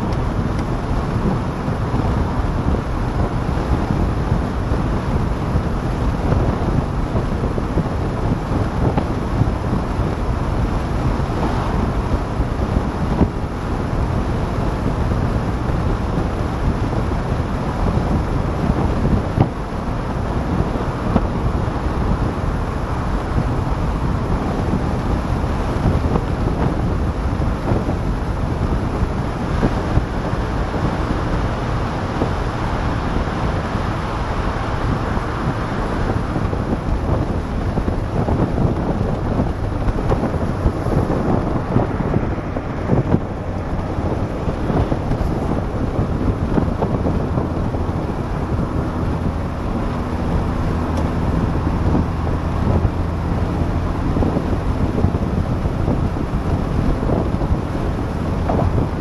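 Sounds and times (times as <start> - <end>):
engine hum: 0.0 - 59.0
road noise rumble: 0.0 - 59.0
wind buffeting microphone: 0.0 - 59.0.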